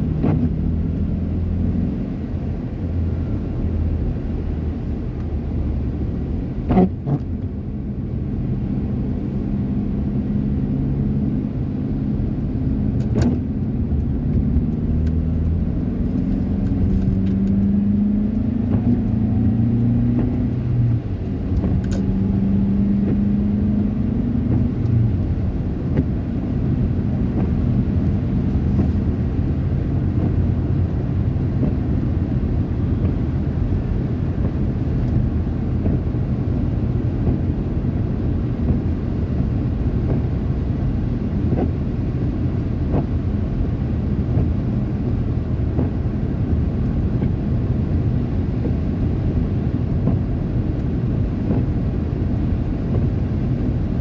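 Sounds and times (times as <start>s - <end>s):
motor vehicle engine rumbling: 0.0s - 54.0s.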